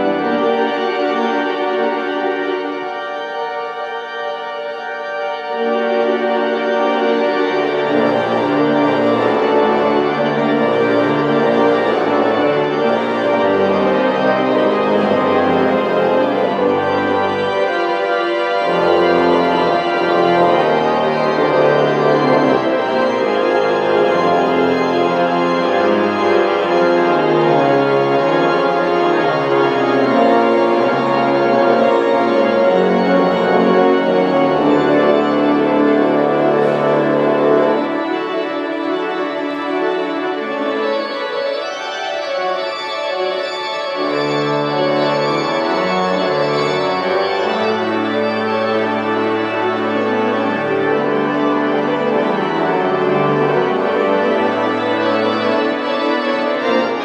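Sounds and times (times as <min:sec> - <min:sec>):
pipe organ chords: 0:00.0 - 0:57.0
organ bass line: 0:04.2 - 0:41.6, 0:42.8 - 0:57.0.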